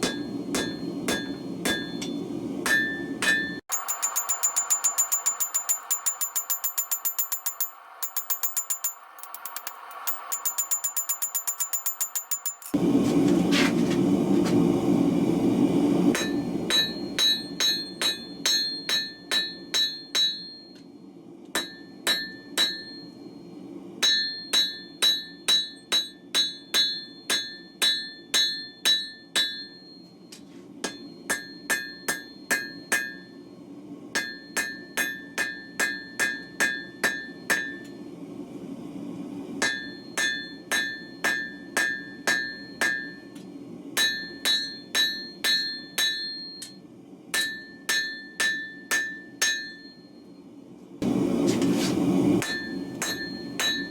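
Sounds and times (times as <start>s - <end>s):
hammer striking steel on anvil: 0.0s - 12.8s, 16.1s - 20.9s, 21.5s - 23.3s, 24.0s - 33.5s, 34.1s - 38.0s, 39.6s - 50.4s, 52.4s - 53.9s.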